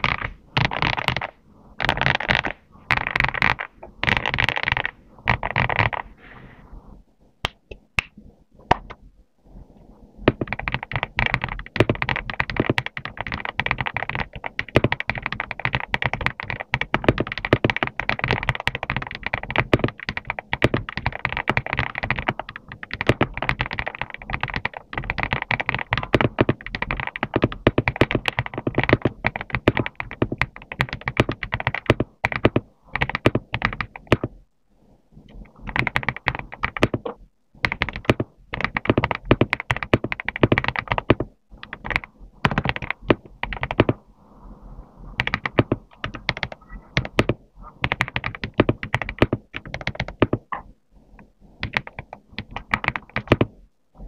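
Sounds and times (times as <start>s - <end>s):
mechanical keyboard typing: 0.0s - 6.1s, 10.2s - 34.4s, 35.5s - 44.0s, 45.2s - 50.7s, 51.6s - 53.6s.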